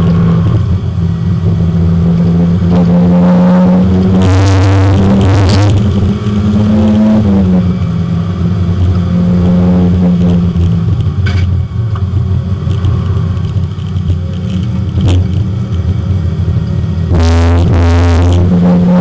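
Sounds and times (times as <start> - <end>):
race car engine running hard: 0.0 - 19.0
rushing noise: 0.0 - 19.0.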